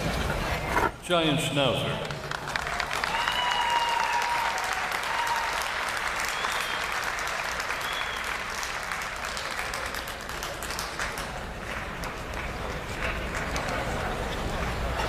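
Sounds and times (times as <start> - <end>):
audience applauding: 2.0 - 15.0.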